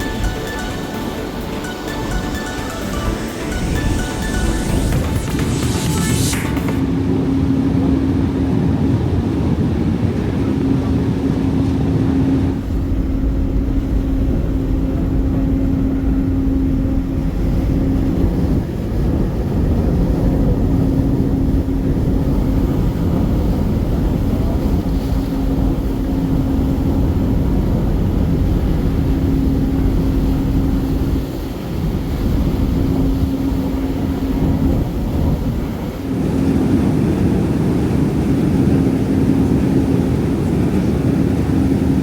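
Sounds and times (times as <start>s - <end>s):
ferry engines rumbling: 0.0s - 42.0s.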